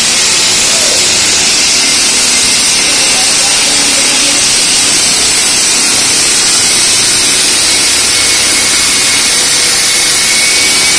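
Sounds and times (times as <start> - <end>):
concrete saw cutting concrete: 0.0 - 10.9.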